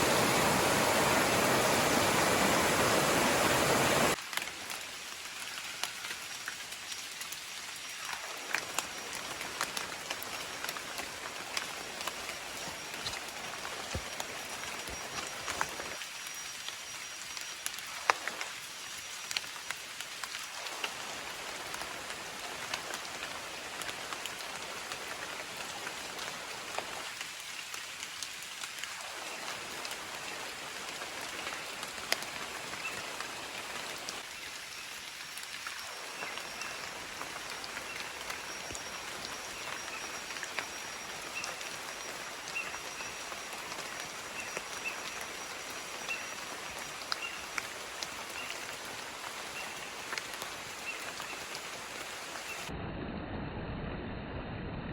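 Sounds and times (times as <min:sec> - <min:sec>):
rain hissing: 0:00.0 - 0:52.7
raindrops tapping close by: 0:00.0 - 0:52.7.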